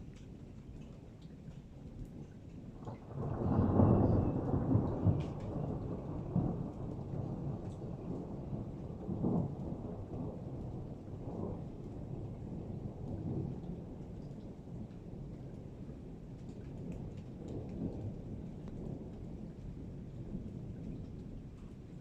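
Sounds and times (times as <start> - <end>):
thunder rumbling: 2.9 - 22.0.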